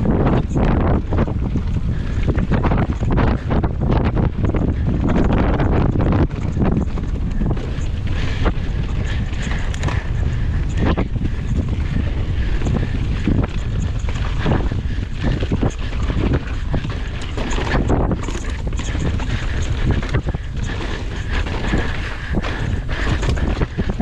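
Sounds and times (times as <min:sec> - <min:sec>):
bike knocks and rattles: 0:00.0 - 0:24.0
wind buffeting microphone: 0:00.0 - 0:24.0.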